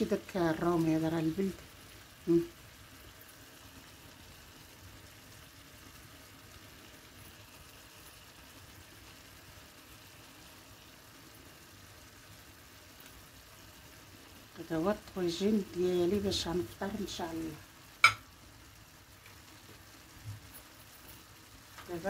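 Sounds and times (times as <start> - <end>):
faint sizzling simmer: 0.0 - 22.0.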